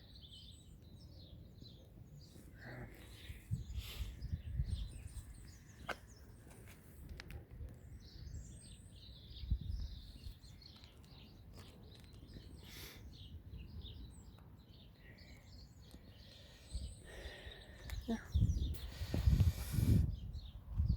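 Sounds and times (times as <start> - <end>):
birds chirping and twittering: 0.0 - 20.9.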